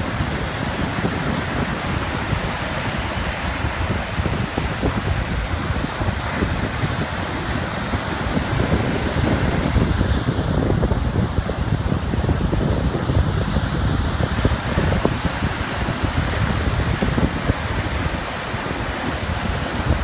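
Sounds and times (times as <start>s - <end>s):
small waves lapping on beach: 0.0s - 20.0s
wind buffeting microphone: 0.0s - 20.0s.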